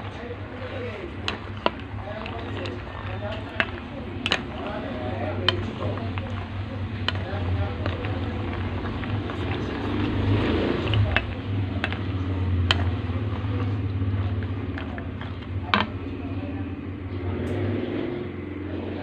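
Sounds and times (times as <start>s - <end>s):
peanuts frying in bubbling oil: 0.0s - 17.6s
steady low hum: 0.0s - 19.0s.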